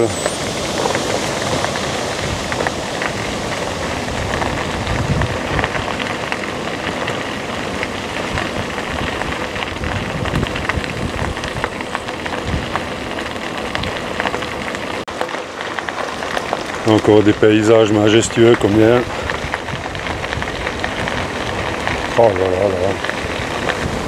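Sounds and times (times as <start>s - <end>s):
wind rushing over microphone: 0.0s - 14.7s, 16.8s - 24.0s
small crackles: 0.0s - 24.0s.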